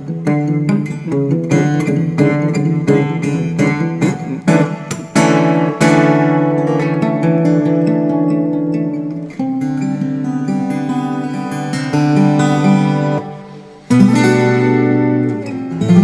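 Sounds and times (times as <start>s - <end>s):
resophonic guitar playing: 0.0s - 16.0s.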